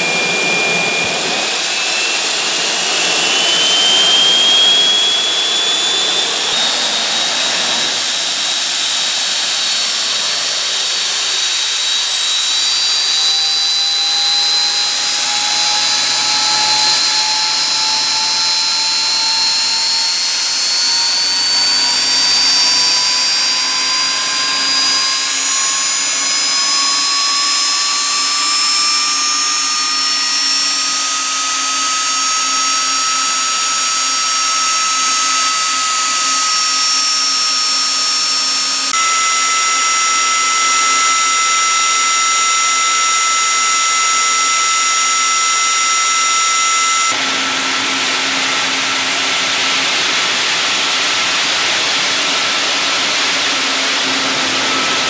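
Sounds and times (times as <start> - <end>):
gas turbine running: 0.0 - 55.0
high whines rising in pitch: 0.0 - 55.0.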